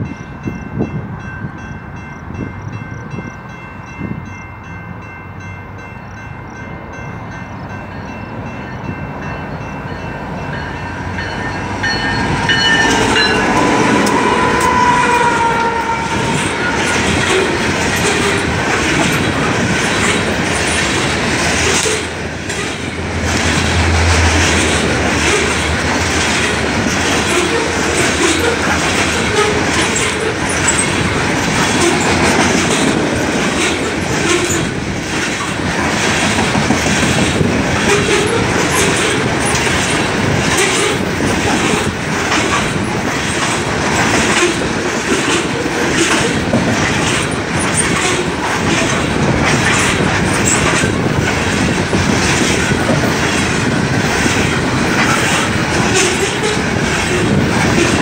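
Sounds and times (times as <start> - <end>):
train wheels rumbling on rail: 0.0 - 58.0
wheels clickety-clack on rail joints: 6.4 - 58.0.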